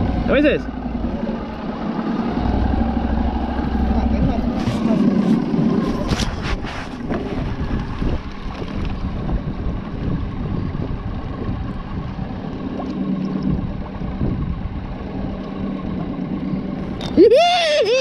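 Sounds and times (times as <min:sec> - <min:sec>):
outboard engine running: 0:00.0 - 0:18.0
wind on microphone: 0:00.9 - 0:16.9.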